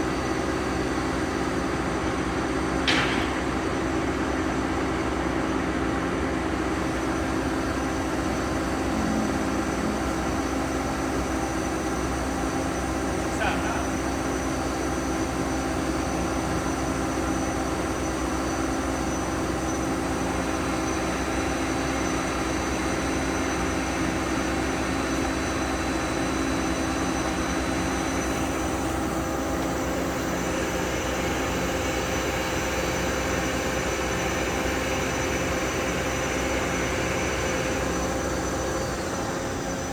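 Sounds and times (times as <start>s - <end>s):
boring mill machine hum: 0.0s - 39.9s.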